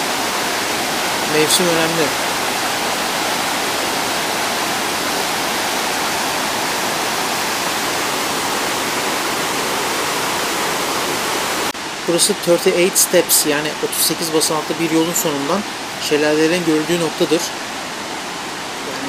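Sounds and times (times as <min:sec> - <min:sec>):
roar of waterfall: 0:00.0 - 0:19.0.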